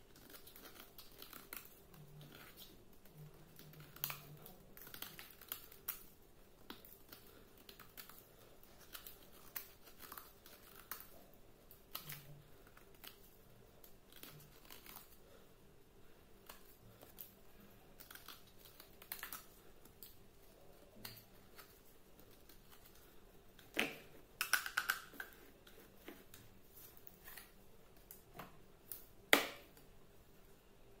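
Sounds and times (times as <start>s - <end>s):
knife carving soap: 0.0s - 15.4s, 16.4s - 29.8s.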